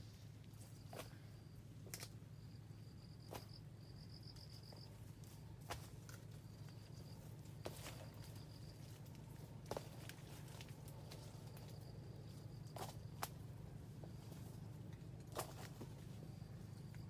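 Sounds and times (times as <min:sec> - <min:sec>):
faint insect trills: 0:00.0 - 0:17.0
steady low hum: 0:00.0 - 0:17.0.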